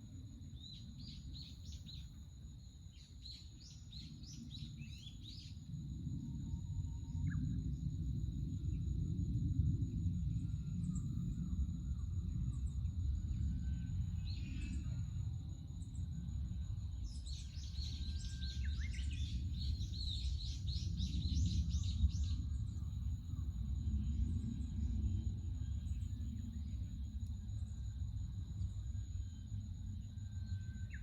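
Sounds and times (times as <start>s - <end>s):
steady low rumble: 4.2s - 31.0s.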